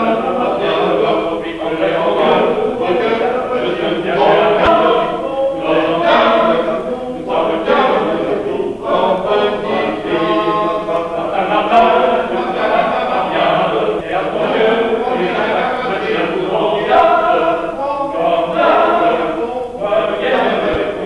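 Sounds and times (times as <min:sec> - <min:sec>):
men's choir singing: 0:00.0 - 0:21.0.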